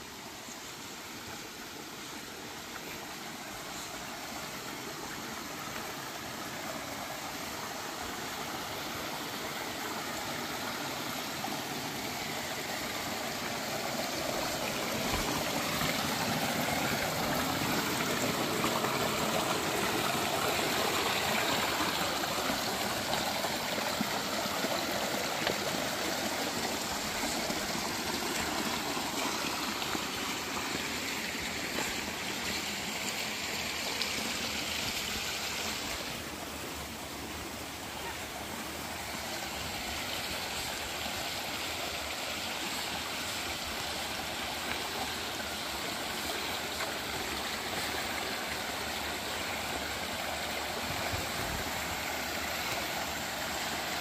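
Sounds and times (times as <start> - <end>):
creek water splashing over stones: 0.0 - 54.0.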